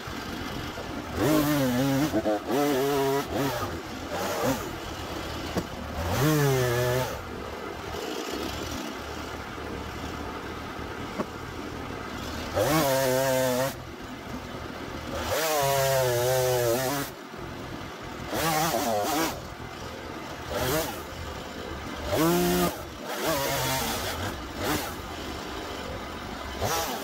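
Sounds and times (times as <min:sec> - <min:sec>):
chainsaw idling and revving: 0:00.0 - 0:27.0.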